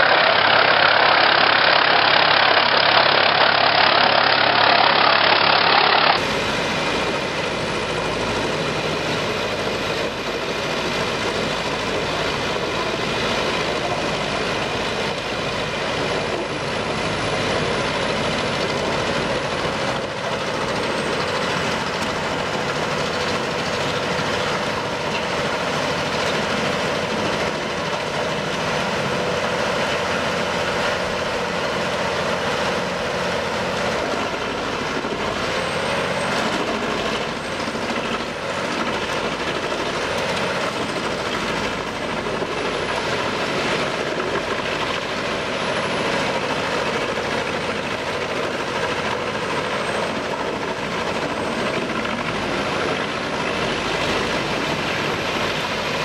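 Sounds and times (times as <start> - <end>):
wood chipper running: 0.0 - 56.0.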